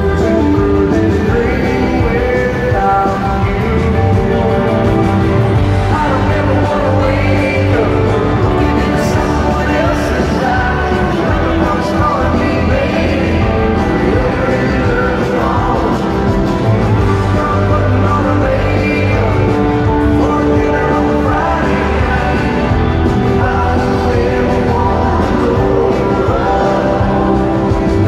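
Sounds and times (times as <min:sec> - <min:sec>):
live country band playing: 0:00.0 - 0:28.0
man singing lead vocal: 0:00.0 - 0:28.0.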